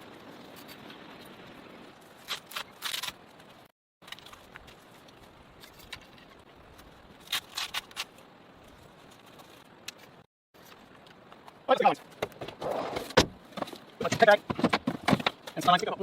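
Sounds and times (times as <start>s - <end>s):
camping gear clicks and scrapes: 0.0s - 16.0s.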